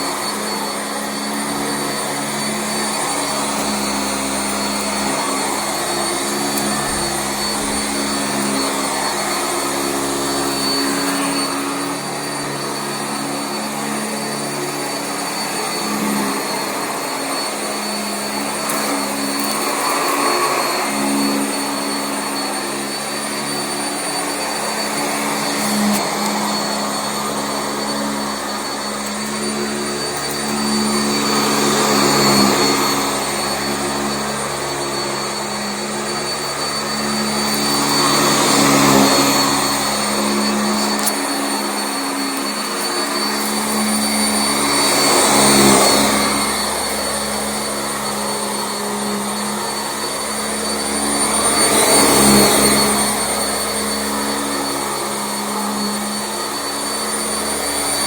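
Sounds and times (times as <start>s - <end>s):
upright vacuum cleaner on carpet: 0.0s - 58.0s.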